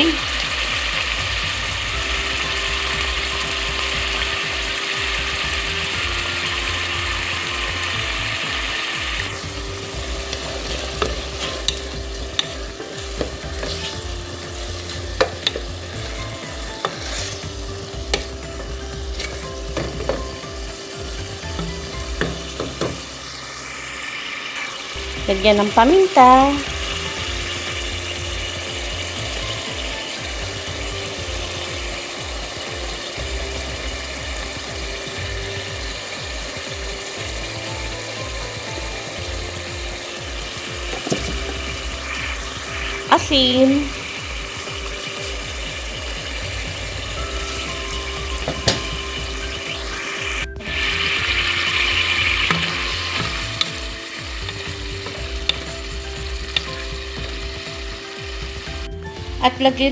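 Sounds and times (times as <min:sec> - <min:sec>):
food sizzling in a pot: 0:00.0 - 0:59.9.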